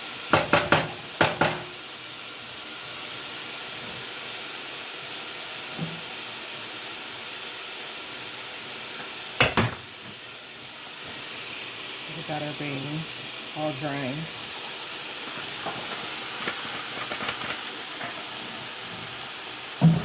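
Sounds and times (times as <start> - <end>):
vegetables and sausage sizzling: 0.0 - 20.0.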